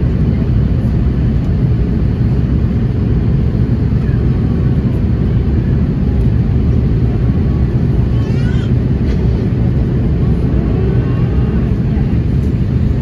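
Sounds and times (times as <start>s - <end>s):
jet engine rumble: 0.0s - 13.0s.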